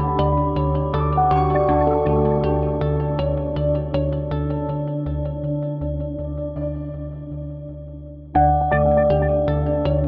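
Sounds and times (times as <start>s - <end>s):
soft sustained tones: 0.0s - 10.0s.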